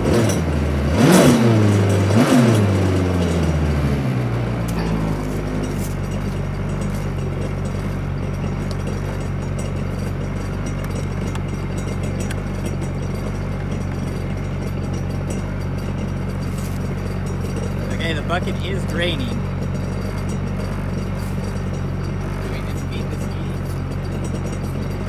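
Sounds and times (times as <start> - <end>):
jet ski engine idling: 0.0 - 25.0.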